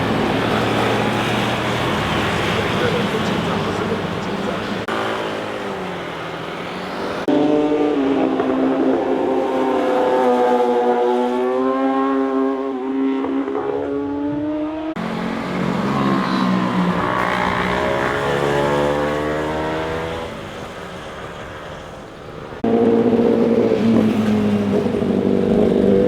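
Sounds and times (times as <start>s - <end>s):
motorcycle engines passing: 0.0s - 26.0s.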